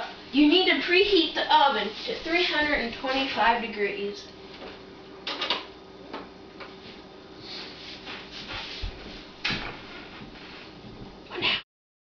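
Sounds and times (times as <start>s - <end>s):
faint steady hum: 0.0s - 11.6s.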